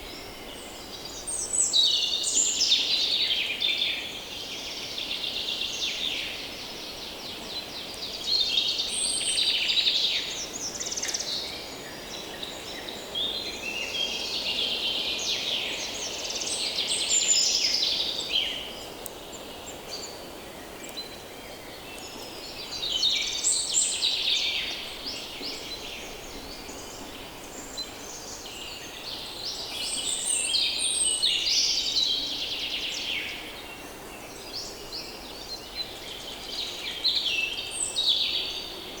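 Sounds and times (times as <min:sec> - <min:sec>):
songbirds twittering: 0:00.0 - 0:39.0.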